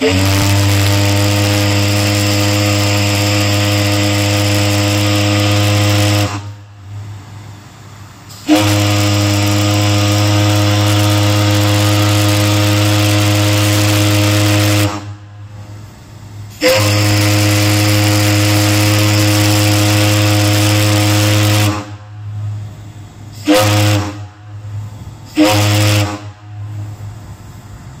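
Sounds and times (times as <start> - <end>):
deep steam whistle blasts: 0.0 - 28.0
steam hiss: 0.0 - 28.0.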